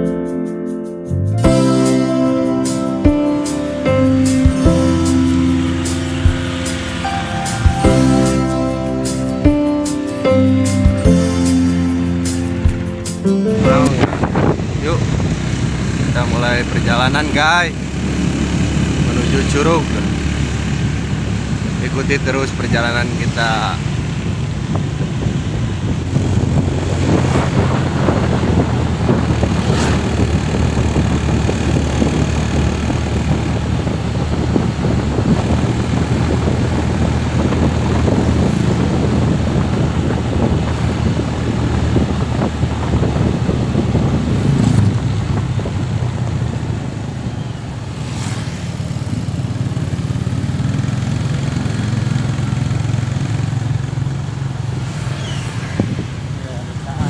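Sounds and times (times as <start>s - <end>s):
motorcycle engine running: 1.4s - 57.0s.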